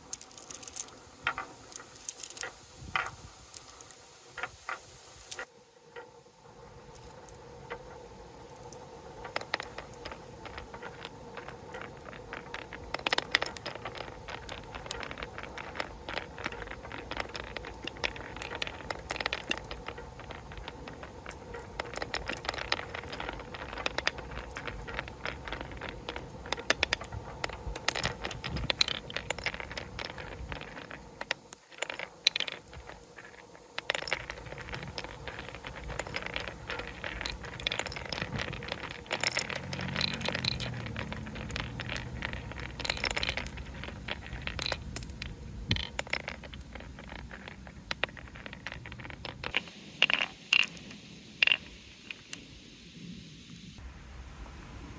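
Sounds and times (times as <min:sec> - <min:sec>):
marbles rolling on wooden run: 0:00.0 - 0:52.4.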